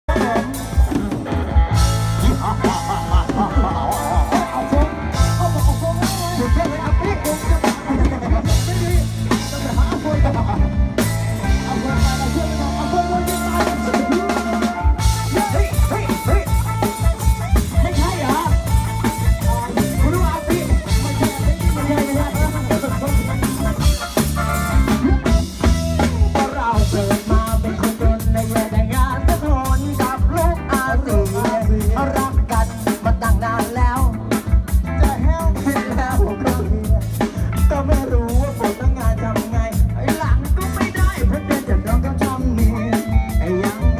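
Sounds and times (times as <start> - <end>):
band playing groove: 0.0 - 43.9
bass playing: 0.1 - 43.9.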